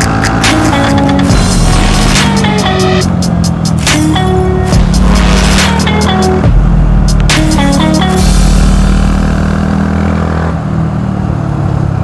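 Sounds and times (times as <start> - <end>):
rock music with drums: 0.0 - 9.6
motorcycle engine drone: 0.0 - 12.0.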